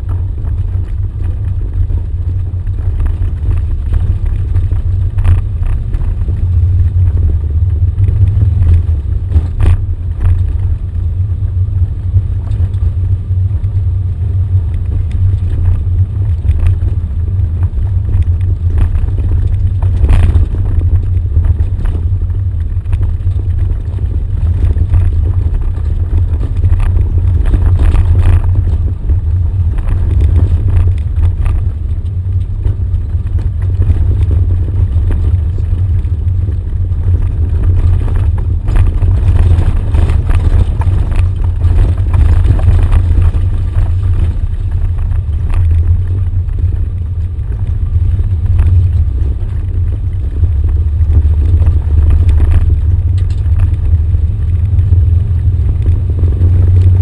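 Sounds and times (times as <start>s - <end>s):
knocks and rattles over bumps: 0.0s - 57.0s
off-road vehicle engine rumble: 0.0s - 57.0s.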